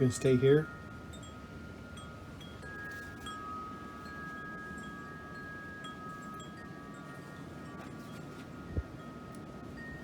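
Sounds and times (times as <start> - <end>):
wind chimes ringing: 0.0 - 10.0.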